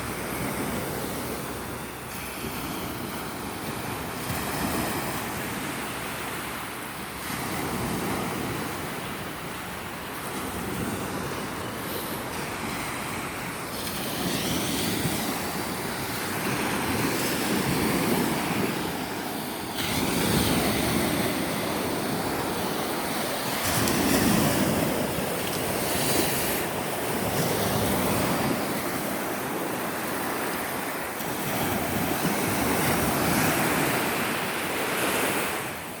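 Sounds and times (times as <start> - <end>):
sea waves breaking on shore: 0.0 - 36.0
wind on microphone: 0.0 - 36.0.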